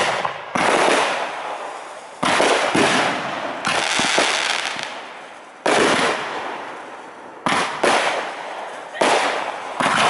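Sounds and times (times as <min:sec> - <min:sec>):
fireworks bangs: 0:00.0 - 0:10.0
rolling crackle and echo: 0:00.0 - 0:10.0.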